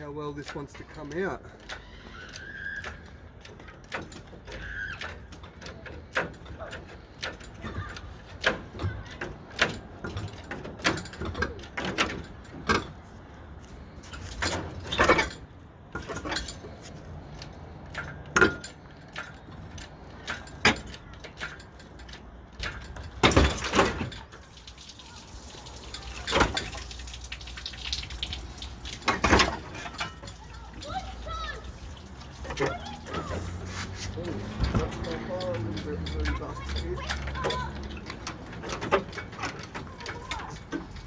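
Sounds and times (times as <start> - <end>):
metallic clanks and rattles of engine crane: 0.0 - 25.0, 25.6 - 41.0.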